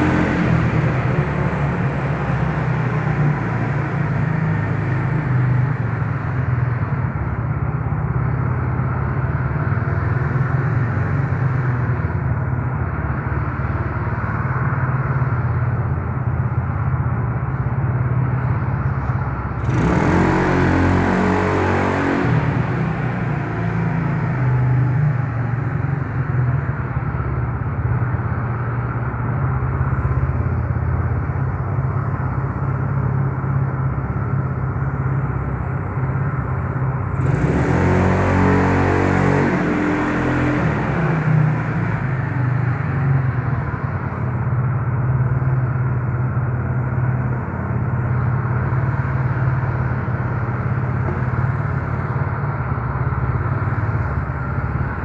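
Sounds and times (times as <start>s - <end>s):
road noise: 0.0s - 55.0s.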